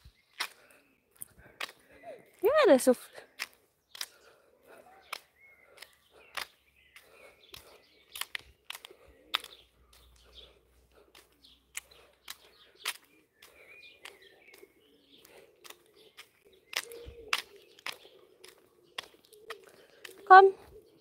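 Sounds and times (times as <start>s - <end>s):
faint birds chirping: 0.0s - 21.0s
footsteps on asphalt: 0.0s - 21.0s.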